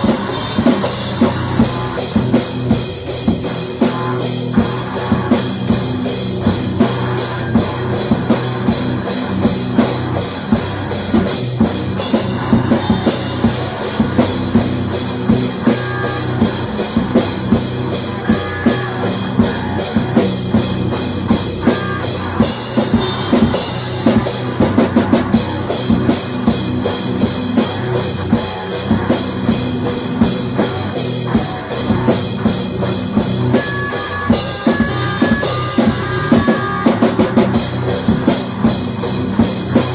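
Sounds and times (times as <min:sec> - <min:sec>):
drum kit playing steady beat: 0:00.0 - 0:39.9
rock music: 0:00.0 - 0:39.9.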